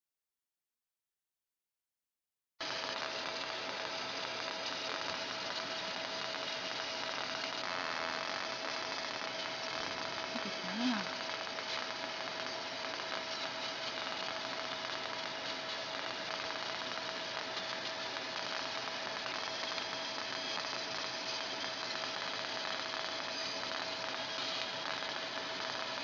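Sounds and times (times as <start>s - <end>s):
laser marking machine hiss and whine: 2.6s - 26.0s.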